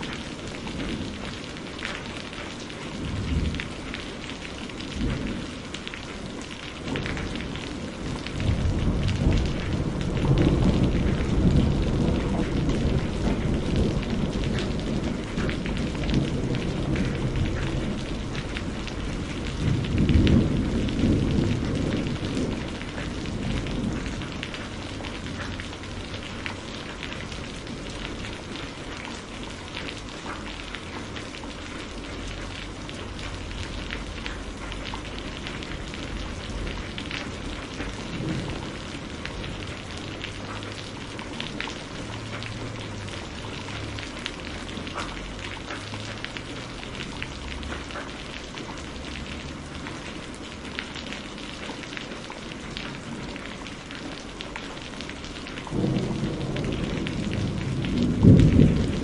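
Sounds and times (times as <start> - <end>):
rain falling: 0.0 - 59.0
raindrops ticking: 0.0 - 59.0.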